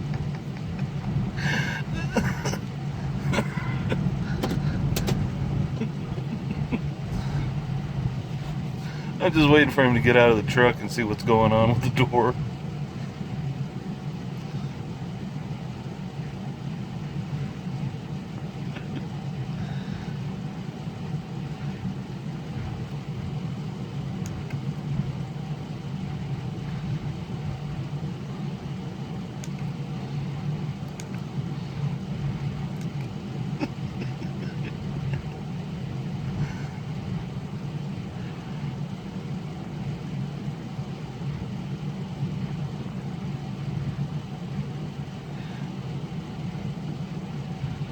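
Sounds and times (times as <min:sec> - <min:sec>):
truck engine idling: 0:00.0 - 0:47.9.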